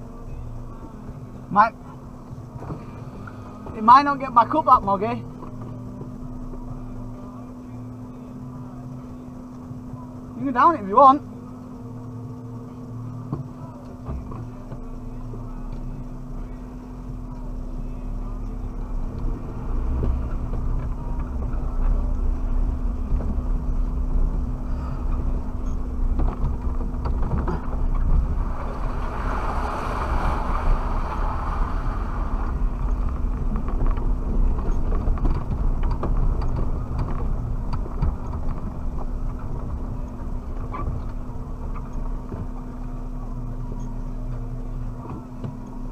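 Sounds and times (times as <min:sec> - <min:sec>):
car engine and drivetrain rumble: 0:00.0 - 0:45.9.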